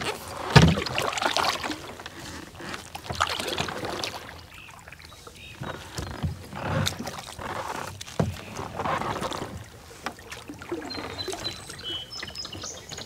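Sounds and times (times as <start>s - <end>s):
paddle strokes splashing water: 0.0s - 13.0s.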